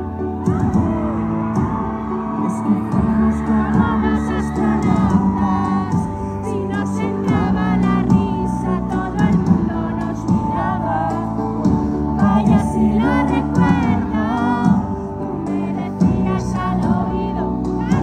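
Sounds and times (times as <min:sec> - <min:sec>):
person singing: 0:00.0 - 0:18.0
pop band playing: 0:00.0 - 0:18.0.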